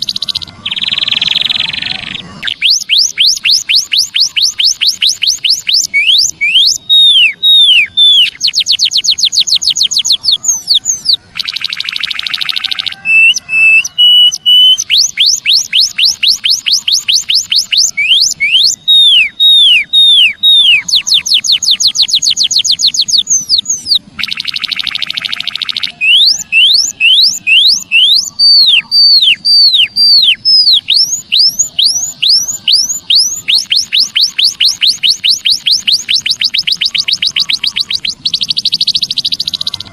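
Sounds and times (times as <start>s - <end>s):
high bird whistles: 0.0s - 39.9s.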